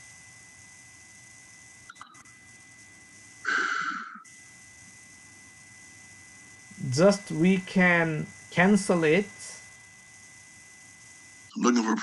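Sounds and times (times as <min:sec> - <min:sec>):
audio line hum and hiss: 0:00.0 - 0:12.0
constant high-pitched tone: 0:00.0 - 0:12.0.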